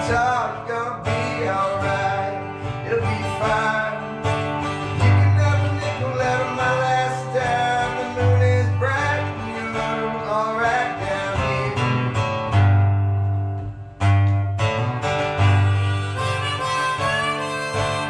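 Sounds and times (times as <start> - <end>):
bass line: 0.0 - 18.0
guitar music: 0.0 - 18.0.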